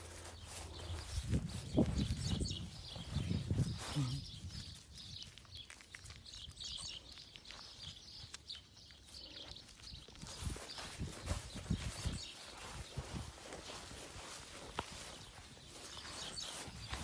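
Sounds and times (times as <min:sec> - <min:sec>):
faint bird chirps: 0:00.0 - 0:14.3
rustling in grass: 0:00.0 - 0:17.0.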